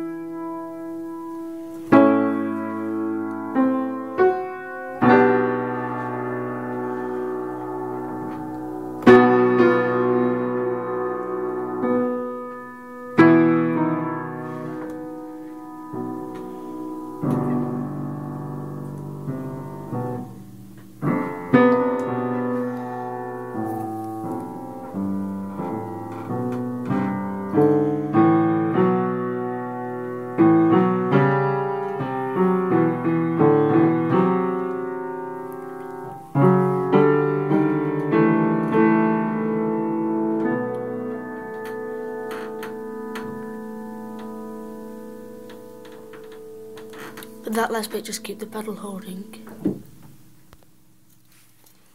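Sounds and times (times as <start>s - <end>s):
piano playing slow chords: 0.0s - 51.0s.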